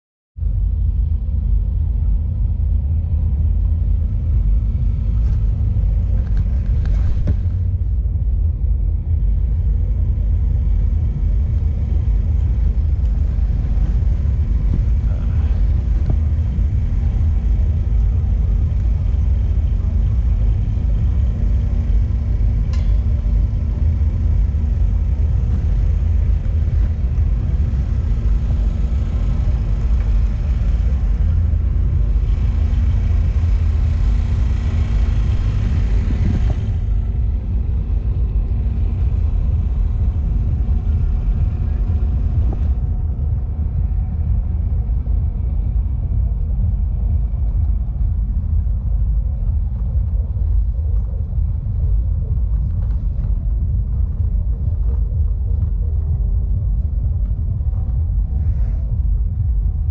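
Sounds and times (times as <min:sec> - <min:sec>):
wind buffeting microphone: 0:00.4 - 0:59.9.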